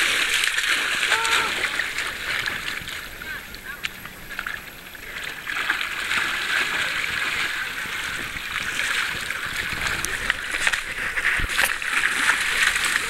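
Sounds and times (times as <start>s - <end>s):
dogs splashing in shallow water: 0.0s - 13.0s.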